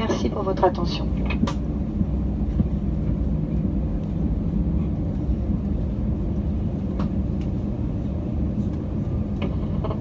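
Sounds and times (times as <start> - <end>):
aircraft cabin rumble: 0.0 - 10.0.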